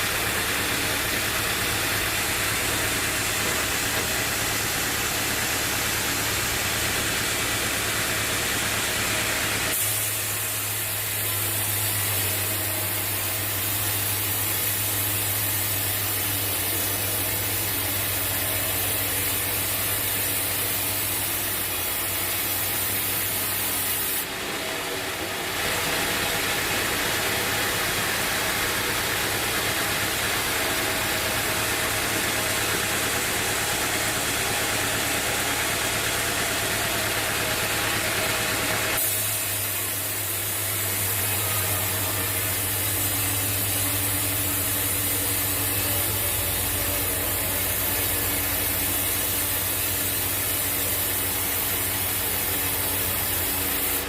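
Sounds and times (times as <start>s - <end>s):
bandsaw sawmill running: 0.0s - 54.0s
hiss: 0.0s - 54.0s.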